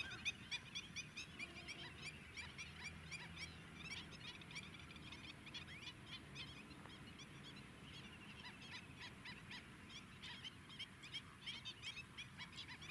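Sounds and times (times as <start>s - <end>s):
flamingos calling: 0.0s - 12.9s.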